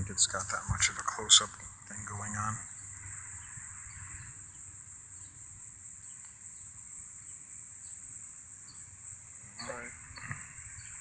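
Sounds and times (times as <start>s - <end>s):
insects trilling: 0.0s - 11.0s
short insect chirps: 0.0s - 11.0s.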